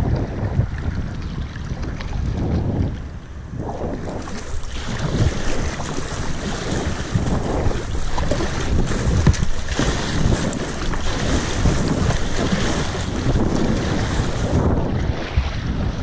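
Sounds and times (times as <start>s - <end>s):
water splashing against boat: 0.0s - 16.0s
wind buffeting microphone: 0.0s - 16.0s.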